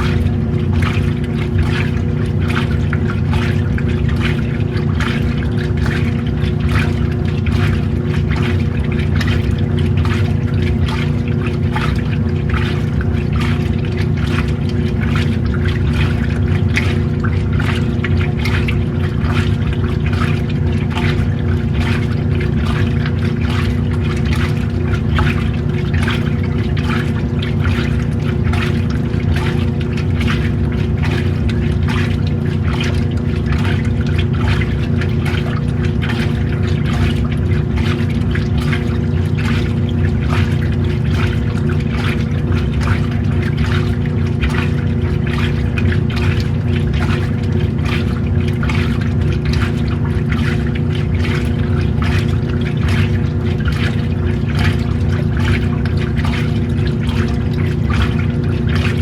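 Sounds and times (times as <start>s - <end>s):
washing machine motor hum: 0.0s - 59.0s
water sloshing: 0.0s - 59.0s.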